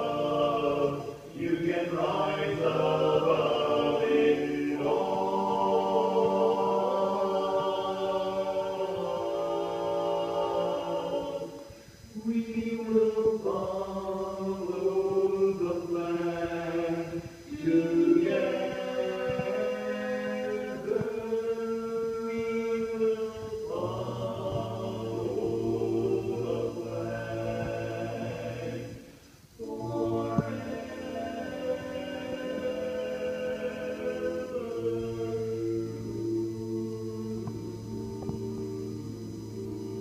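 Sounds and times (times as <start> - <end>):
men singing a cappella harmony: 0.0 - 40.0.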